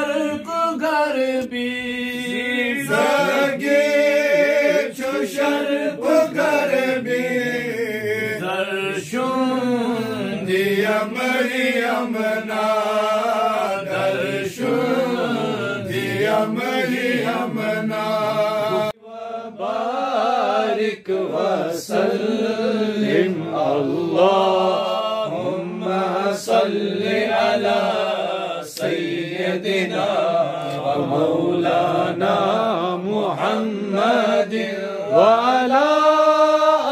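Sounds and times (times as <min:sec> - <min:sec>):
men chanting unaccompanied: 0:00.0 - 0:36.9.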